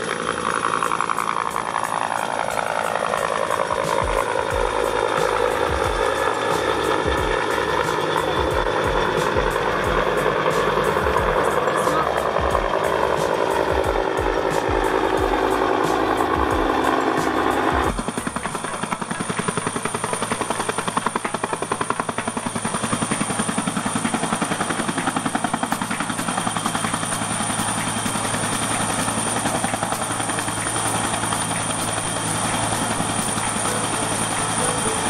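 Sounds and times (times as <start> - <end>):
helicopter rotor beat: 0.0 - 35.0
high whine: 0.0 - 35.0
steady hum: 0.0 - 35.0.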